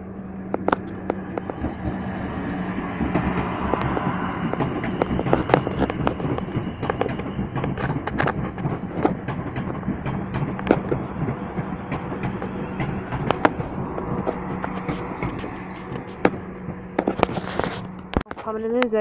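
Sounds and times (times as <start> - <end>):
train hum: 0.0 - 19.0
wheels clicking on track: 0.0 - 19.0.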